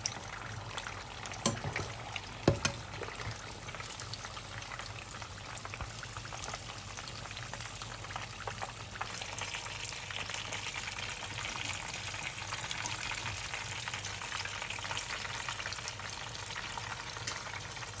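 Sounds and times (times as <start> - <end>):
food deep-frying in hot oil: 0.0 - 18.0.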